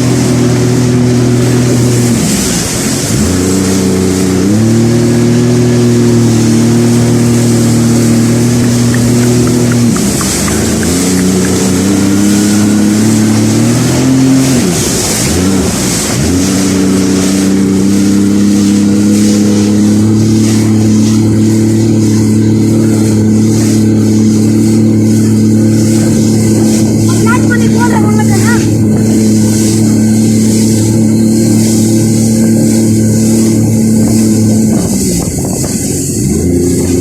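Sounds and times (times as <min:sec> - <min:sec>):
jet ski engine running: 0:00.0 - 0:37.0
rushing hiss: 0:00.0 - 0:37.0.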